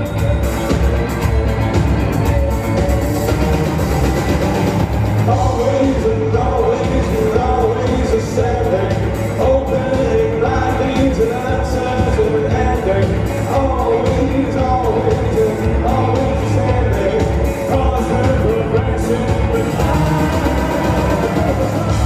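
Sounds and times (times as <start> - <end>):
rock band playing live: 0.0 - 22.0
person singing lead vocal: 2.2 - 22.0.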